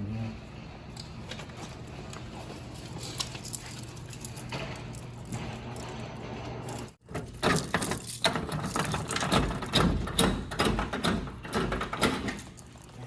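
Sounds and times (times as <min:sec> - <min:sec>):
vending machine mechanism clattering: 0:01.0 - 0:13.0.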